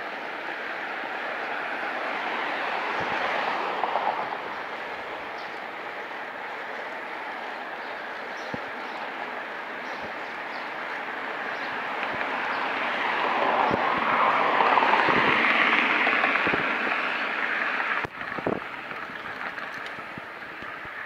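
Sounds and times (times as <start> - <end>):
train rumbling past: 0.6 - 21.0.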